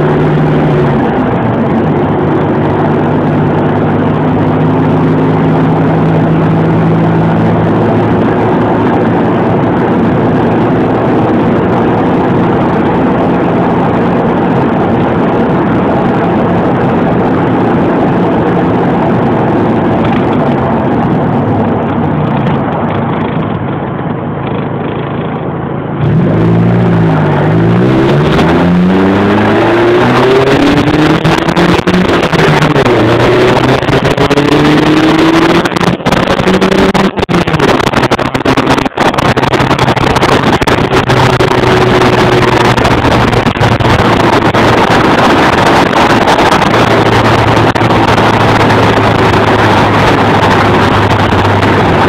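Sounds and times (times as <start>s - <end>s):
car engine driving: 0.0s - 52.0s
wind noise on microphone: 0.0s - 52.0s.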